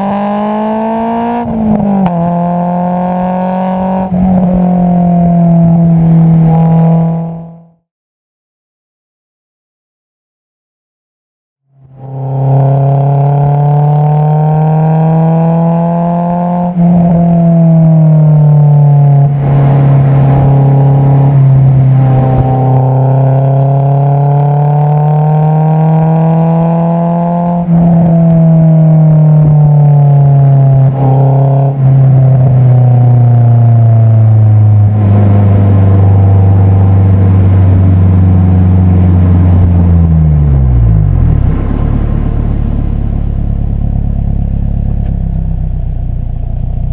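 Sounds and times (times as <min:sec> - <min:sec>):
sports car engine accelerating: 0:00.0 - 0:07.8, 0:11.8 - 0:46.9.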